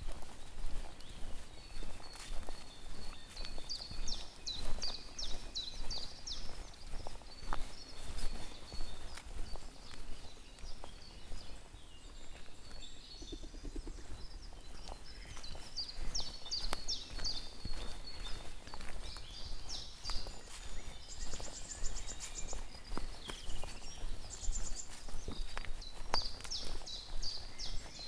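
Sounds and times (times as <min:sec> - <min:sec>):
songbirds chirping and whistling: 0:00.0 - 0:28.0.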